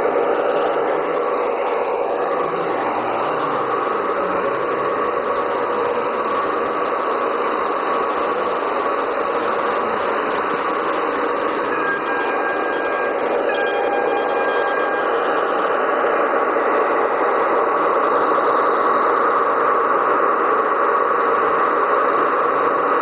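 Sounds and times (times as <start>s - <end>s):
train wheels rolling on rail: 0.0s - 23.0s.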